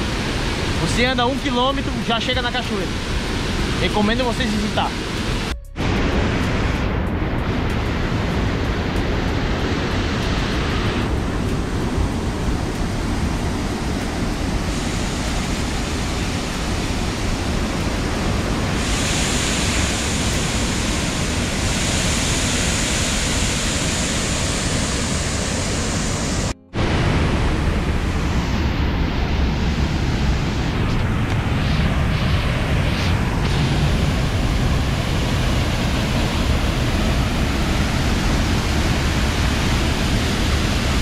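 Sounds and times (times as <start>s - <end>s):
river and waterfall rushing: 0.0s - 6.8s, 7.6s - 41.0s.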